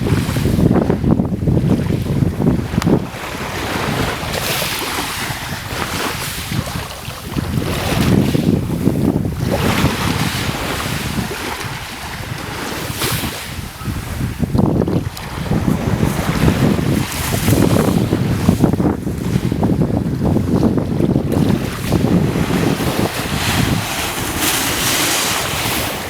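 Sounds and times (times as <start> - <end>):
sea waves: 0.0 - 26.0
wind buffeting microphone: 0.0 - 26.0.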